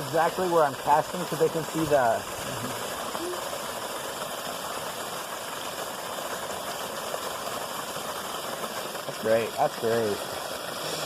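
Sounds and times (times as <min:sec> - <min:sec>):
creek water over waterfall: 0:00.0 - 0:11.0.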